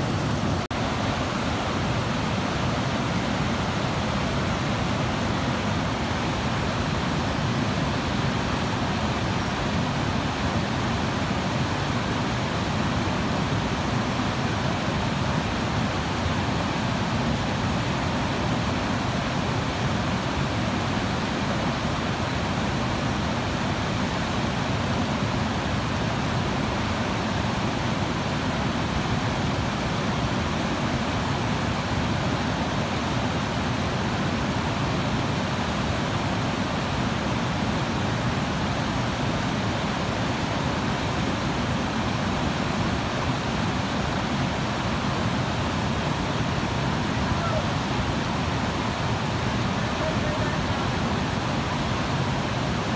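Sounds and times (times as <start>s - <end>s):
river rushing over rocks: 0.0s - 52.9s.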